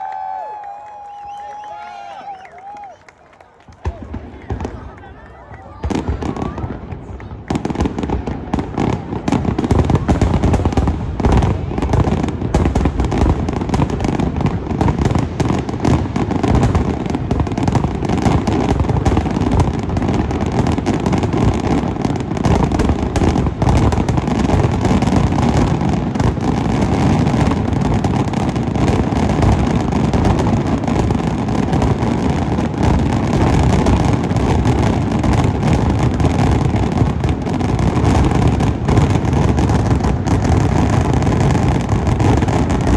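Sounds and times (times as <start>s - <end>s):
fireworks barrage: 3.6s - 42.9s.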